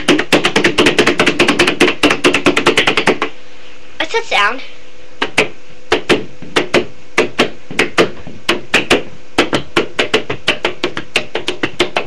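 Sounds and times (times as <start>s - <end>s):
fingers drumming on hard surface: 0.0s - 3.3s, 5.2s - 12.0s.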